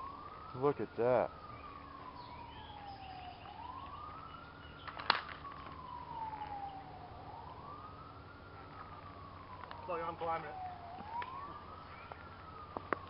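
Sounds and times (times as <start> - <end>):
faint siren wailing: 0.0 - 13.0.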